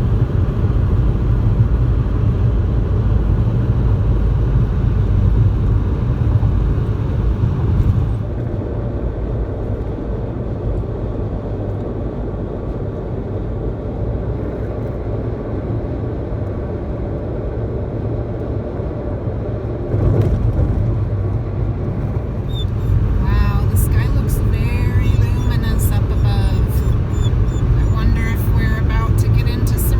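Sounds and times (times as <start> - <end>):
car tyres and engine rumble: 0.0 - 29.9.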